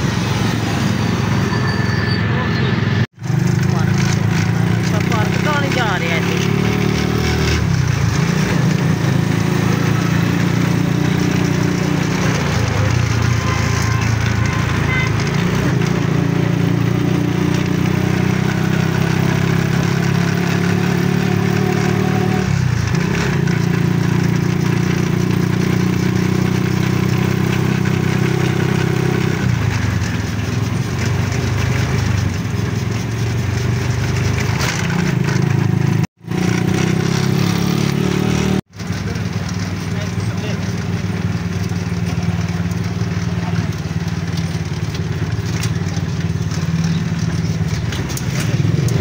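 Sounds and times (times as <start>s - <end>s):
small engine running: 3.3s - 49.0s.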